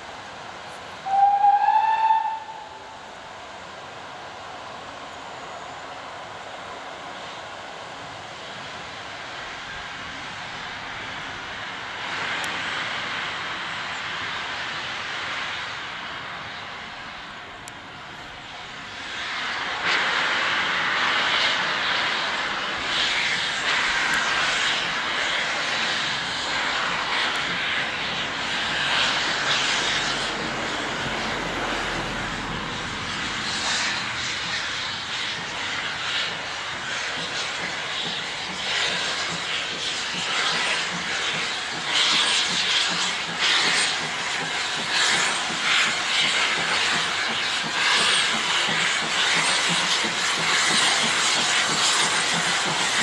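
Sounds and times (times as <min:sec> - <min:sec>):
steam hissing from locomotive: 0:00.0 - 0:53.0.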